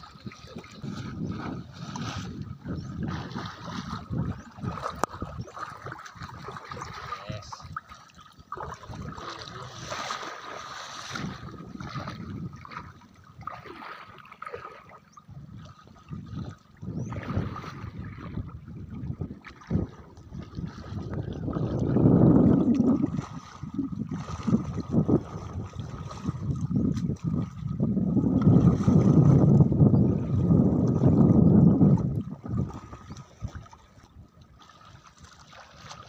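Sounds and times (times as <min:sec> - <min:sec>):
seawater splashing around legs: 0:00.0 - 0:15.1, 0:16.4 - 0:36.0.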